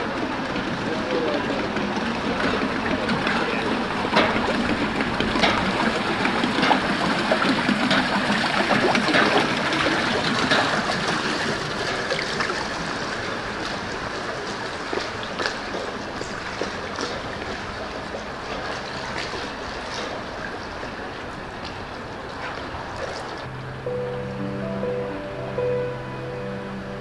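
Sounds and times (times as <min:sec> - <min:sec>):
paddle splashes and drips: 0:00.0 - 0:23.5
river water trickling and lapping: 0:00.0 - 0:27.0.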